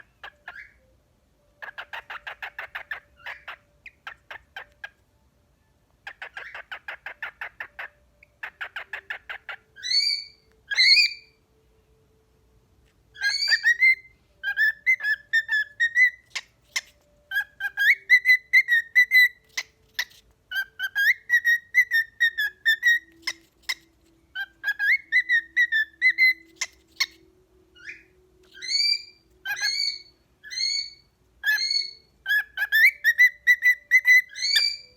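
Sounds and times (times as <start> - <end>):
cockatiels whistling: 1.6 - 4.8, 6.1 - 11.4, 13.2 - 34.9
cockatiels pulsing chatter: 1.6 - 5.0, 6.0 - 11.3, 13.2 - 34.9.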